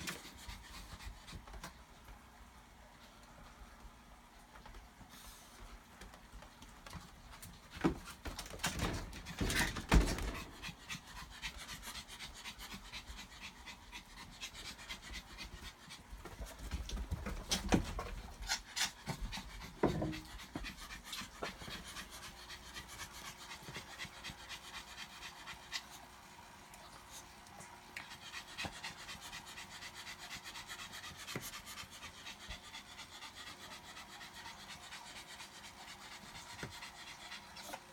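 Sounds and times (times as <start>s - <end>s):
dog panting: 0.0s - 1.9s, 4.6s - 37.9s.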